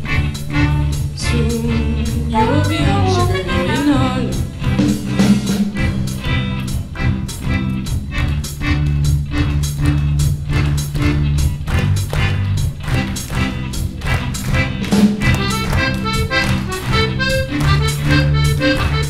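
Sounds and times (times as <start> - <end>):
drum kit beat: 0.0 - 19.0
jazz combo playing swing: 0.0 - 19.0.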